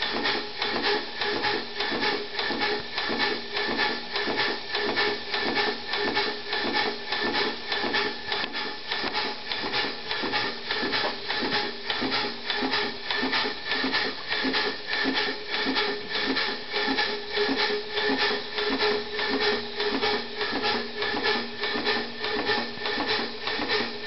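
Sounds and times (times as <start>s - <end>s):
model engine exhaust puffs: 0.0s - 24.0s.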